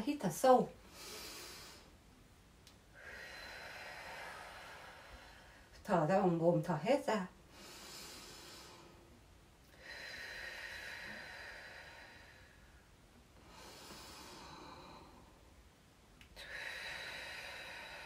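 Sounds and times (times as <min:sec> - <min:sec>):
woman breathing deeply: 0:00.8 - 0:02.0, 0:02.8 - 0:05.8, 0:07.4 - 0:18.0.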